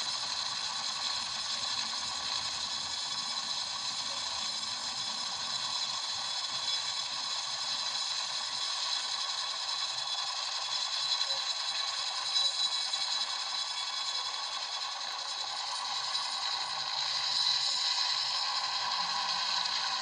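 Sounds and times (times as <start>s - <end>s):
helicopter mechanical whir: 0.0s - 20.0s.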